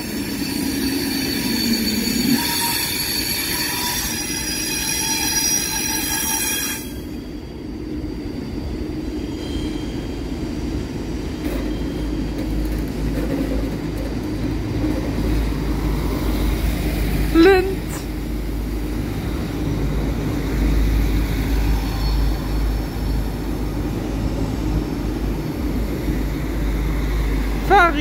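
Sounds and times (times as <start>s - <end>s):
diesel railcar engine rumble: 0.0s - 28.0s
train high-pitched whining tones: 0.0s - 28.0s.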